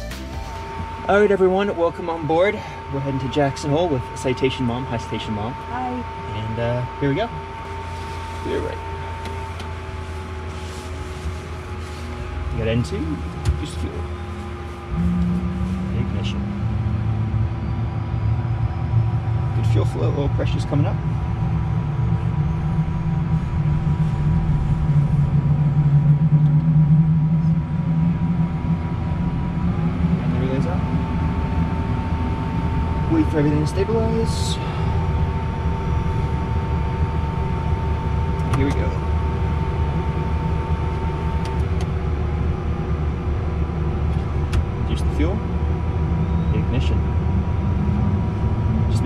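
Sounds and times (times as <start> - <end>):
jet engine low hum: 0.0 - 49.0
jet engine thin whine: 0.0 - 49.0.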